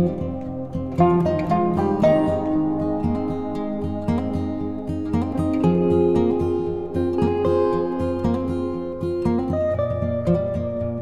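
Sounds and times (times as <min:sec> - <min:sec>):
plucked string notes: 0:00.0 - 0:11.0.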